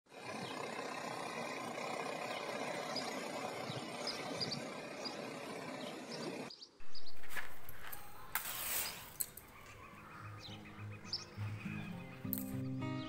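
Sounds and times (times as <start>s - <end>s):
small bird chirping: 2.0s - 13.0s.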